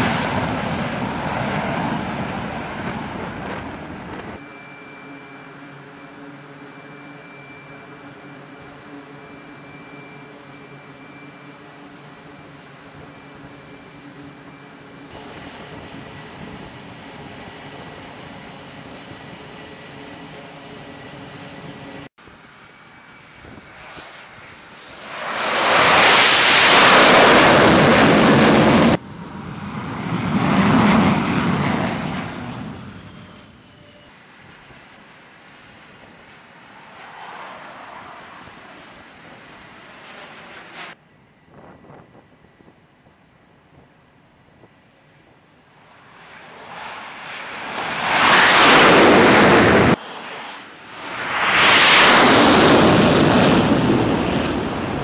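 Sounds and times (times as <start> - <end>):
taxiing jet roar: 0.0 - 20.2, 23.1 - 33.6, 35.5 - 41.0, 45.6 - 55.0
jet engine roar: 0.0 - 55.0.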